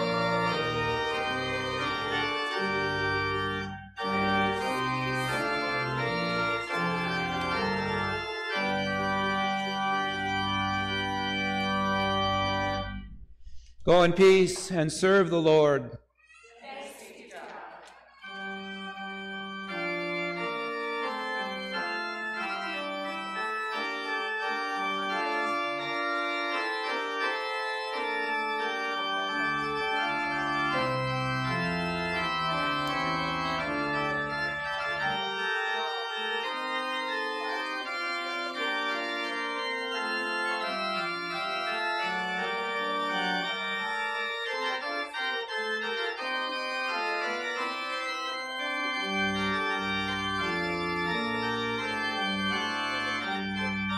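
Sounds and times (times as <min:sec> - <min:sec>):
church organ chords: 0:00.0 - 0:13.2, 0:13.9 - 0:16.0, 0:18.1 - 0:53.9
deep organ pedal notes: 0:00.0 - 0:13.3, 0:18.2 - 0:53.9.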